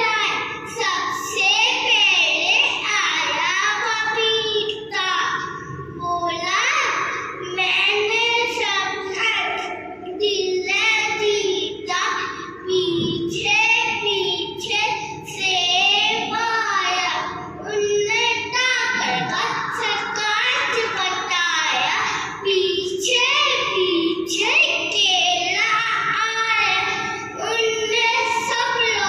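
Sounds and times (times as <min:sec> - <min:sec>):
child singing into a microphone: 0:00.0 - 0:29.0.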